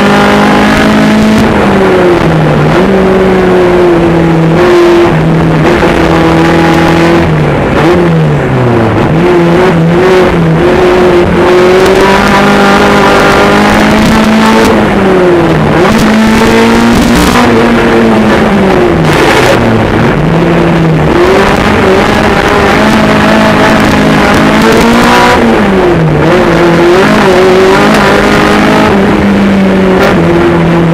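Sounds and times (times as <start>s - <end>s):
racing car engine revving: 0.0s - 30.9s.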